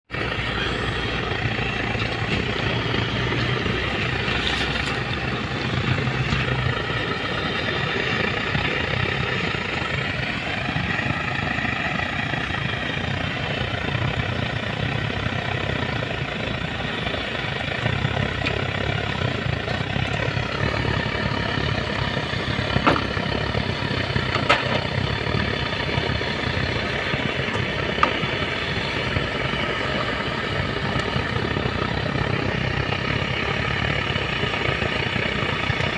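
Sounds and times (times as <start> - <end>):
diesel engine idling: 0.1 - 35.9.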